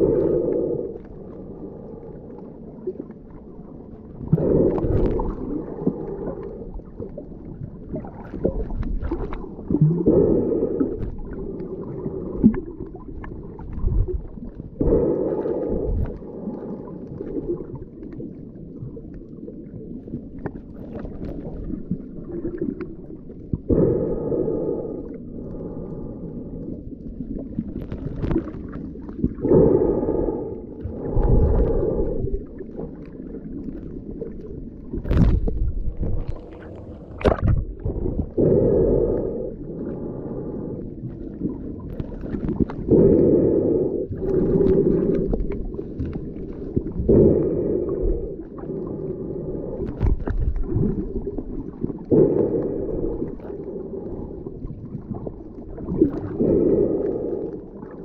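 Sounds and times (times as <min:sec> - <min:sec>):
muffled underwater water rush: 0:00.0 - 0:58.0
underwater gurgling: 0:00.0 - 0:58.0.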